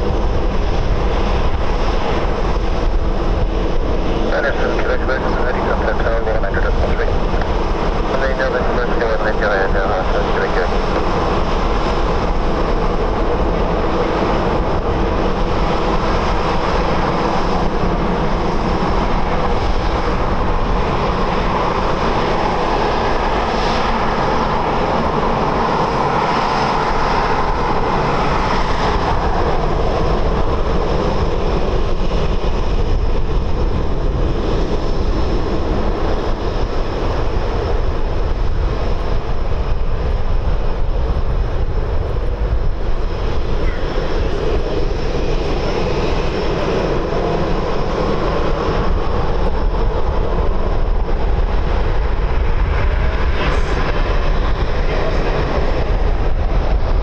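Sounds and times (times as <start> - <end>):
jet engine rush with whine: 0.0 - 57.0.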